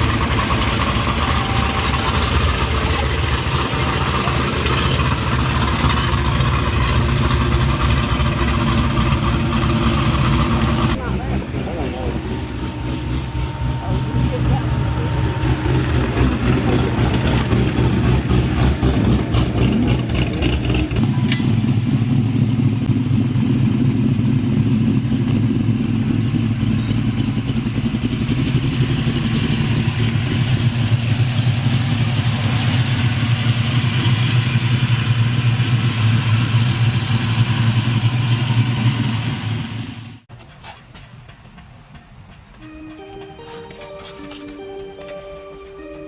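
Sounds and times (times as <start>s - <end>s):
car engine running: 0.0s - 40.3s.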